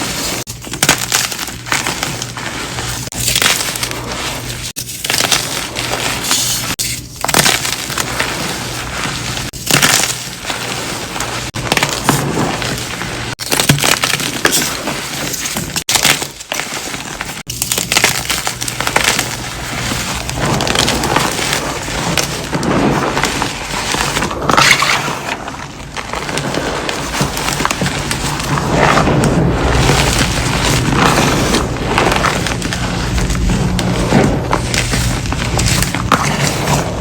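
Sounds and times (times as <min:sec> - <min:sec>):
chalk crunching and cracking: 0:00.0 - 0:37.0.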